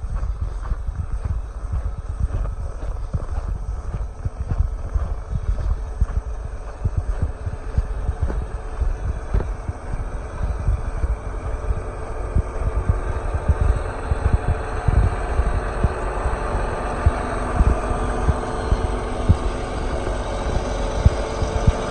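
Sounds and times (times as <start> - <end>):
irregular low thumps: 0.0 - 21.9
tractor diesel engine running: 0.0 - 21.9.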